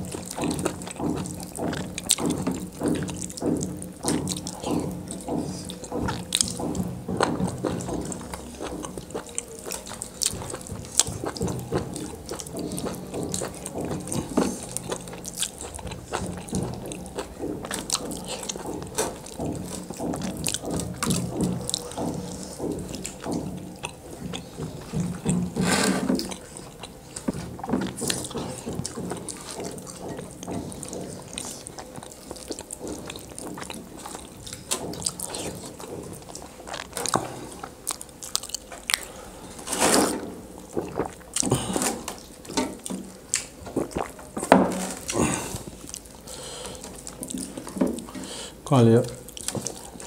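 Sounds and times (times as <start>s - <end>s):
wet chewing and lip-smacking: 0.0s - 50.0s.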